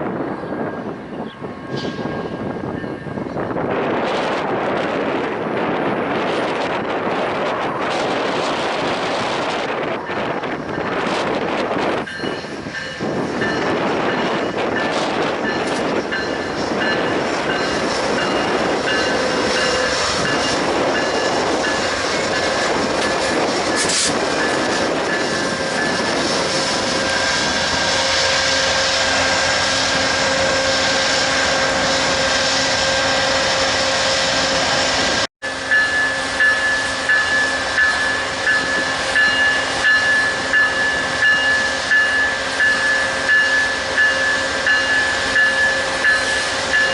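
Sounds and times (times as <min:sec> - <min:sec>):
train wheels rumbling with whine: 0:00.0 - 0:46.9.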